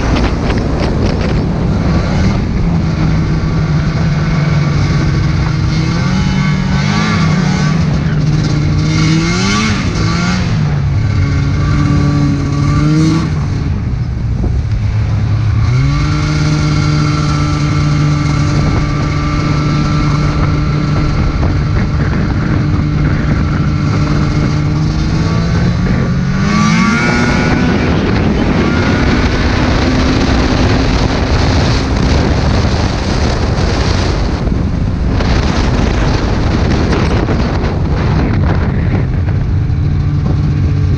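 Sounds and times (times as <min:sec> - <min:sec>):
rough rushing noise: 0:00.0 - 0:40.9
snowmobile engine revving: 0:00.0 - 0:40.9.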